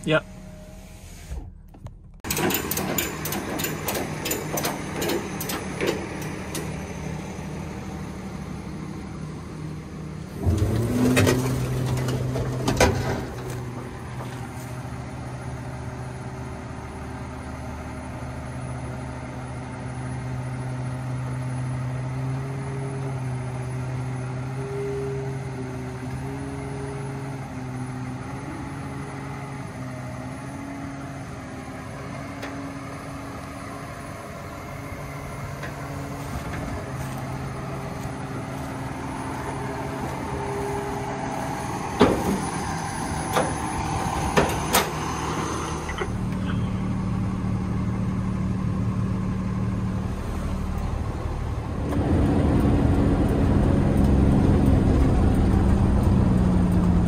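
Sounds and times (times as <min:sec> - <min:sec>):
tow truck engine running: 0:00.0 - 0:57.0.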